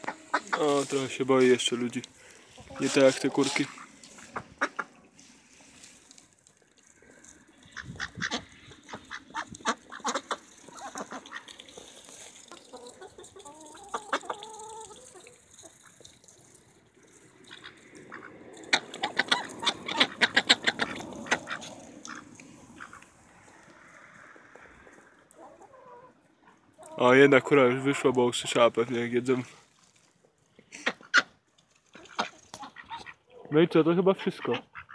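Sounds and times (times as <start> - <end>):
ducks and chickens pecking: 0.0 - 29.0, 29.7 - 33.5.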